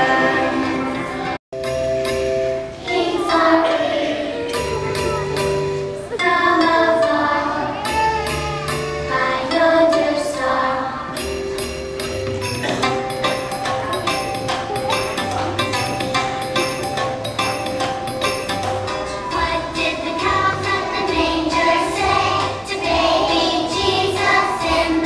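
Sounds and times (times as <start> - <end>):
children singing: 0.0 - 1.4, 2.8 - 11.4, 12.8 - 25.0
musical accompaniment: 0.0 - 25.0.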